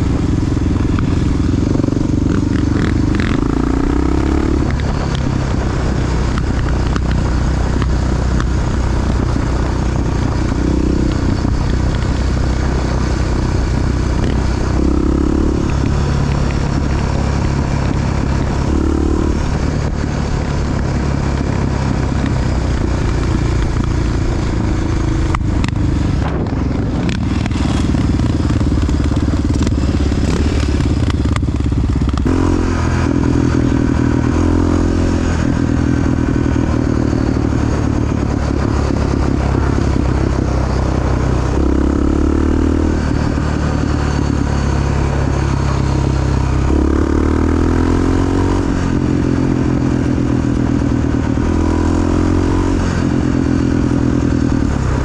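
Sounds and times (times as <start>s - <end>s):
engine clatter: 0.0s - 55.0s
motorcycle engine revving: 0.0s - 55.0s.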